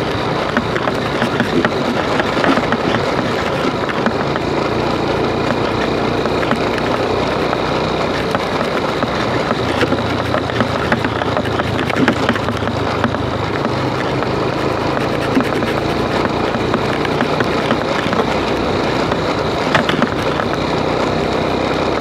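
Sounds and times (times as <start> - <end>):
low engine hum: 0.0 - 22.0
road and wind noise: 0.0 - 22.0
small rattles: 0.0 - 22.0.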